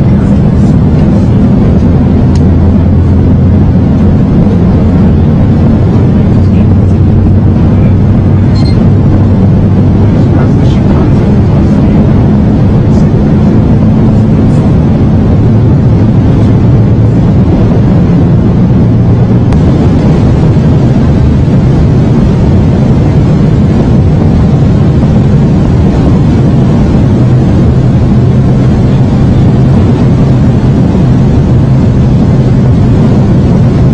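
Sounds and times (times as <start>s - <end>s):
low hum: 0.0s - 33.9s.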